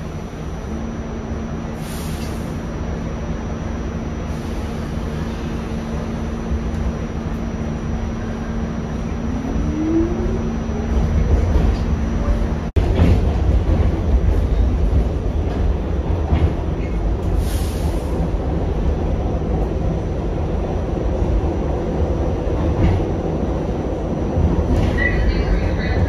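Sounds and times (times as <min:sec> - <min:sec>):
subway car wheels rumbling on rail: 0:00.0 - 0:26.0.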